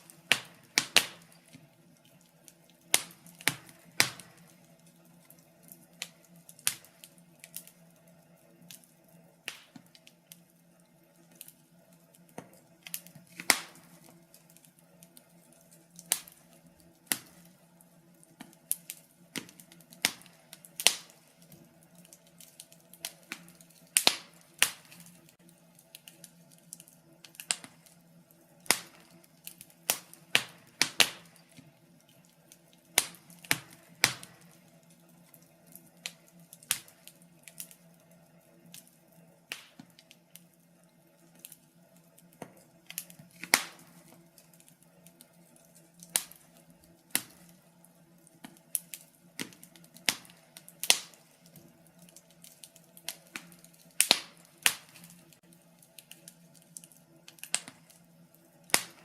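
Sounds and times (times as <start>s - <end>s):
fire pops and snaps: 0.0s - 59.0s.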